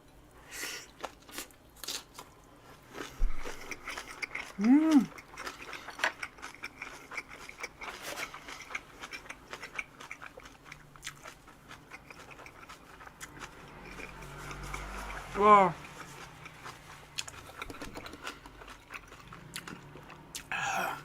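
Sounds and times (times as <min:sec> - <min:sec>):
crunchy chewing: 0:00.9 - 0:21.0.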